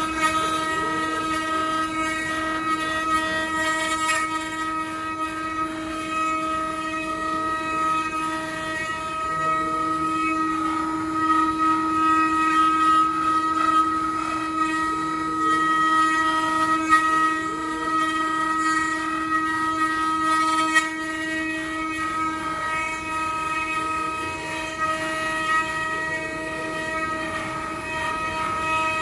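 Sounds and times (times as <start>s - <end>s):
router bits cutting wood: 0.0s - 29.0s
router spindles whining: 0.0s - 29.0s.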